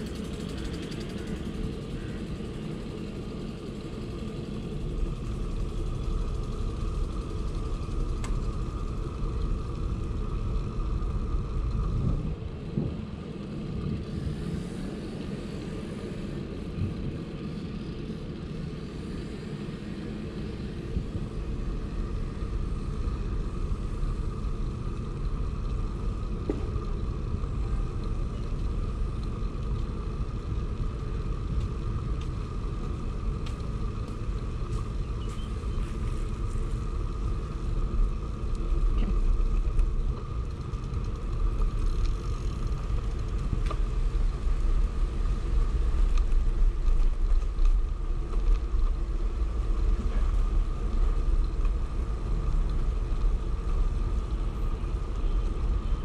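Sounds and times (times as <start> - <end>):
bicycle rolling noise: 0.0 - 56.0
faint steady hum: 0.0 - 56.0
wind rumbling on microphone: 0.0 - 56.0.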